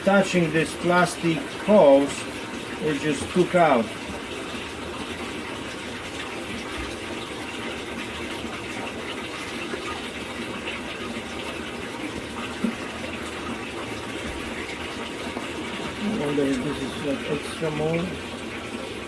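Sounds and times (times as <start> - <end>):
water running in washing machine: 0.0 - 19.0.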